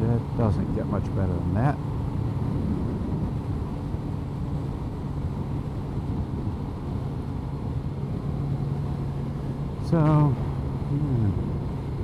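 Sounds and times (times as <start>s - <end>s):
wind rush: 1.8s - 12.0s.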